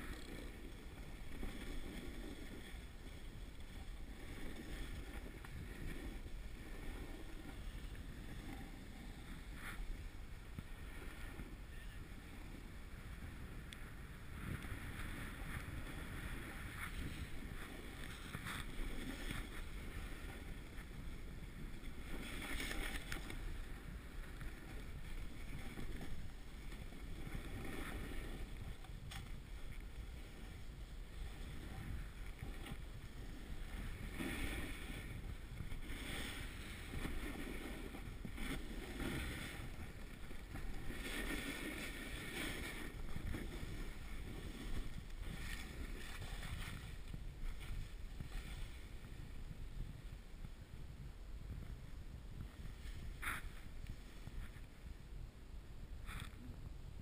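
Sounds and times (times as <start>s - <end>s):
snowboard scraping on snow: 0.0s - 50.2s, 52.4s - 54.7s
wind rumble on microphone: 0.0s - 57.0s.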